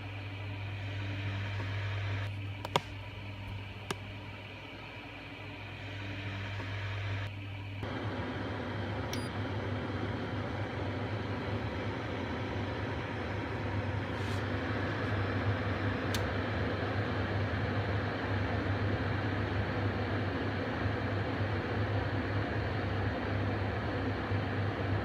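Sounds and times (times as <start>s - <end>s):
dishwasher hum and whirr: 0.0s - 25.0s.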